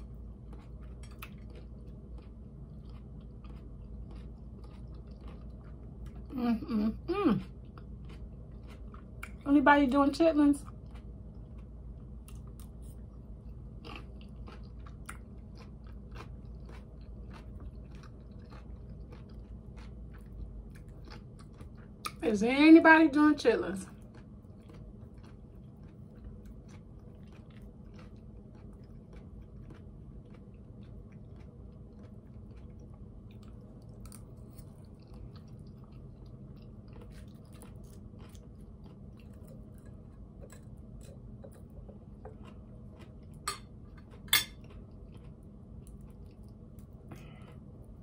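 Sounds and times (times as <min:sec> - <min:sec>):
wet chewing mouth sounds: 0:00.0 - 0:09.5, 0:10.6 - 0:22.2, 0:23.8 - 0:48.0.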